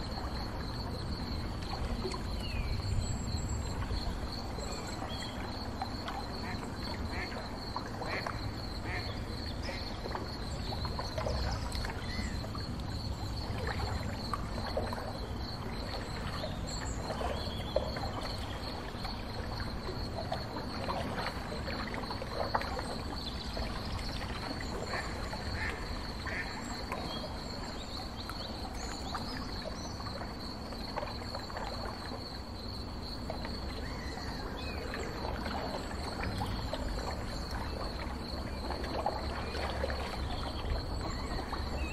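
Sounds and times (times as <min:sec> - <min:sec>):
boat engine rumble: 0:00.0 - 0:41.9.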